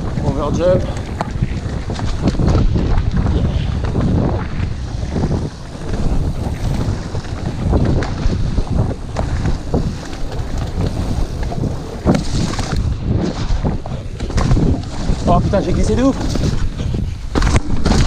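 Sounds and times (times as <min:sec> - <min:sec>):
bike knocks and rattles: 0:00.0 - 0:18.0
wind rumble on microphone: 0:00.0 - 0:18.0.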